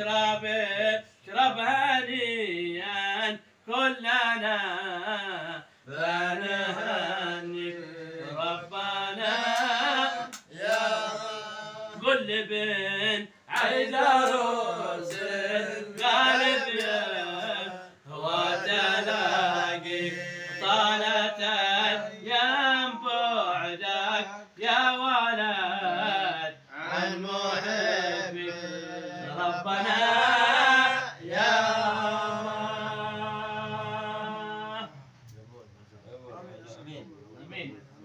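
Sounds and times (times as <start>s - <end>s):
man singing ornamented phrases: 0.0s - 35.0s.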